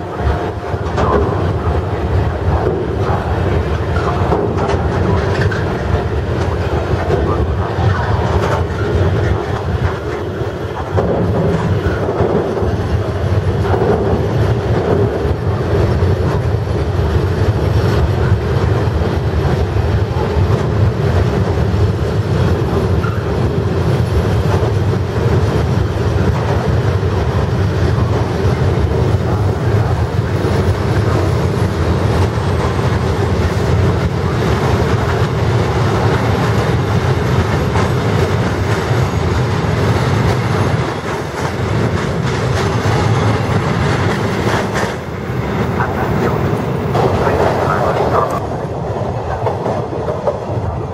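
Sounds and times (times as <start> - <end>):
freight train wheels rumbling: 0.0 - 50.9.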